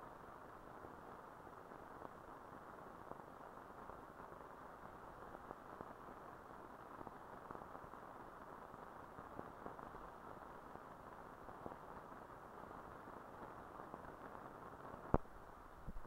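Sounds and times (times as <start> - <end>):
faint clicks and crackles: 0.0 - 16.0
film soundtrack hiss: 0.0 - 16.0.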